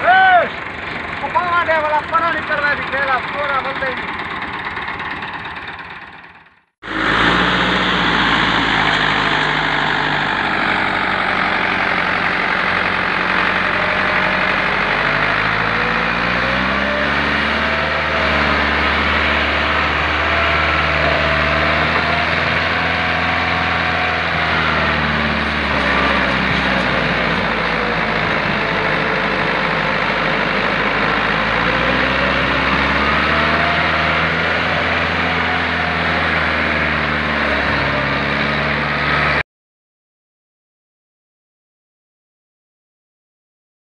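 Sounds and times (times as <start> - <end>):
tractor diesel engine straining: 0.0 - 39.4.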